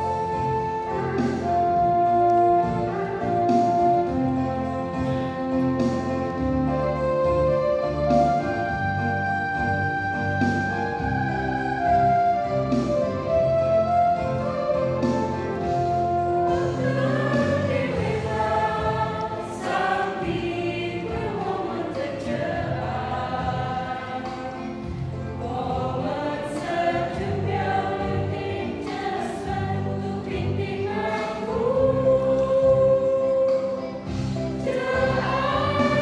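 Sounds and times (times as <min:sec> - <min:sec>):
mixed choir singing a hymn: 0:00.0 - 0:08.8, 0:10.0 - 0:36.0.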